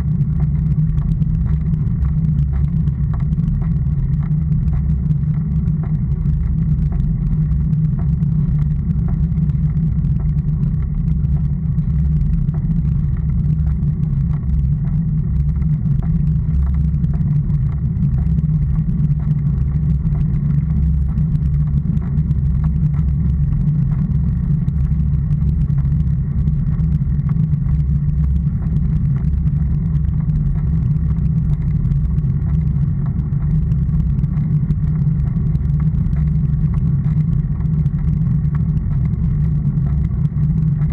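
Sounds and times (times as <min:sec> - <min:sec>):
tyre and road vibration: 0:00.0 - 0:40.9.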